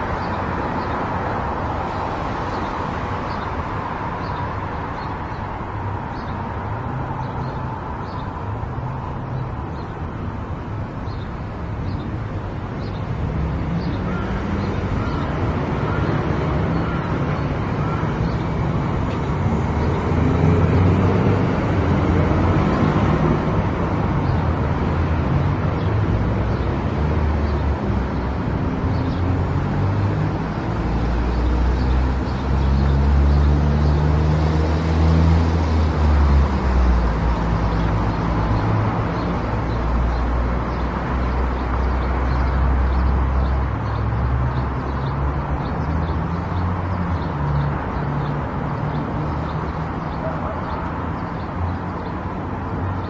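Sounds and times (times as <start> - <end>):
road and tyre noise: 0.0 - 53.0.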